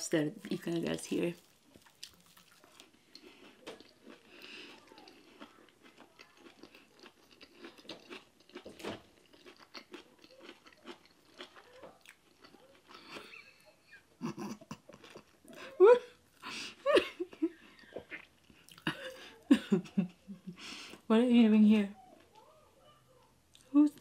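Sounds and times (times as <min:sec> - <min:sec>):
person chewing food: 0:01.4 - 0:21.0.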